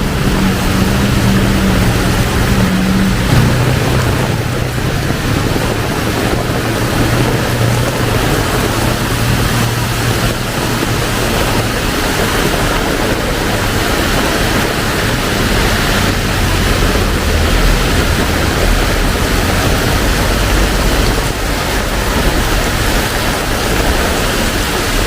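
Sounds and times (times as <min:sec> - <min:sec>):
low rumble: 0:00.0 - 0:24.2
heavy rain pouring: 0:00.0 - 0:25.0.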